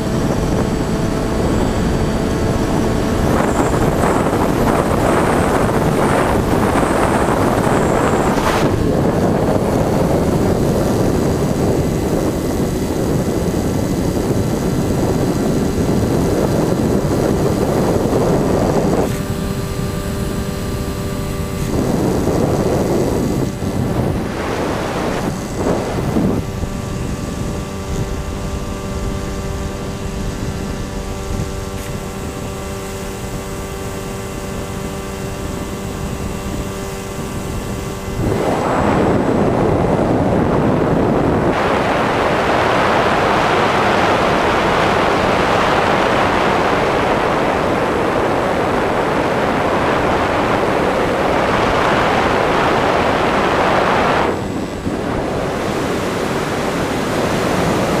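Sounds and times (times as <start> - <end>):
motor and propeller hum: 0.0 - 58.0
wind on microphone: 0.0 - 58.0.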